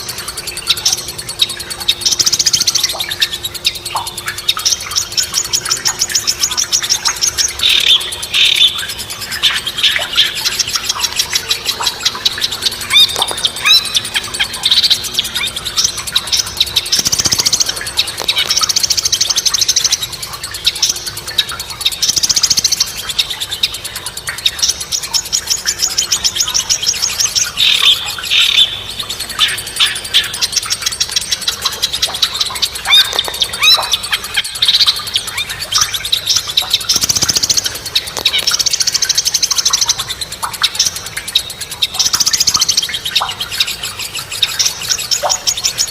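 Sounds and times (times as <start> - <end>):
buzzy high-pitched bird trills: 0.0 - 45.9
songbirds chirping: 0.0 - 45.9.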